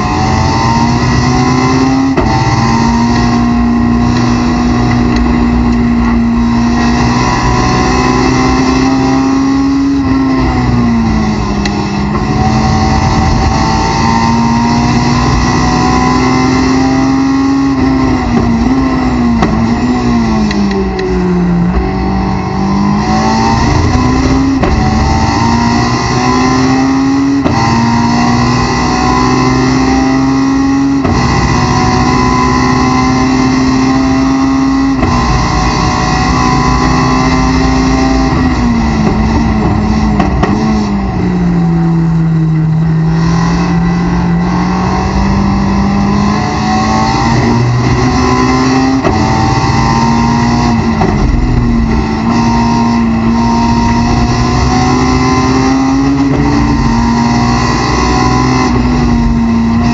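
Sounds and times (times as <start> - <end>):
race car engine revving: 0.0 - 59.9
road and wind noise: 0.0 - 59.9.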